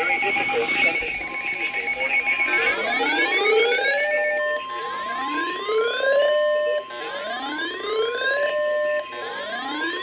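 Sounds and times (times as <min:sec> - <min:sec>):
steady high tone: 0:00.0 - 0:10.0.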